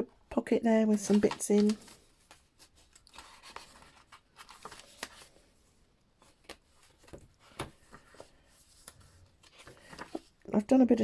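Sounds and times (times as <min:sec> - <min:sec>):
paper rustling: 0:00.9 - 0:10.4.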